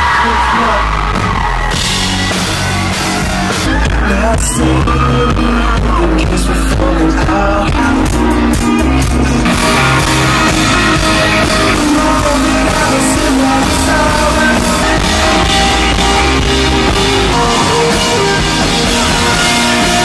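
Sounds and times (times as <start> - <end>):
drum kit: 0.0 - 20.0
electric guitar: 0.0 - 20.0
person singing: 3.7 - 20.0.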